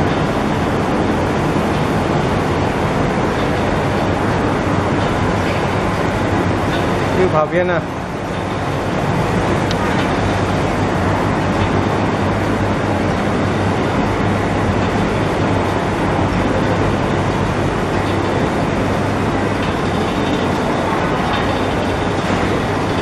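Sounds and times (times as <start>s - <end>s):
machine running: 0.0s - 23.0s.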